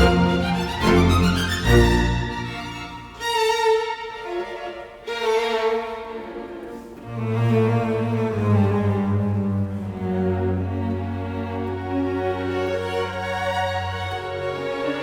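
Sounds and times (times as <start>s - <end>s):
low cello line: 0.0s - 15.0s
sustained violin notes: 0.0s - 15.0s.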